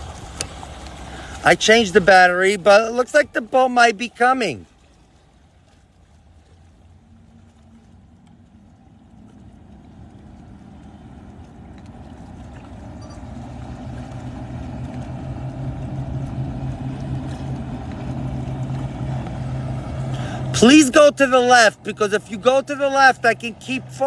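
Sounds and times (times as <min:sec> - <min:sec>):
motorboat engines droning: 0:00.0 - 0:24.0.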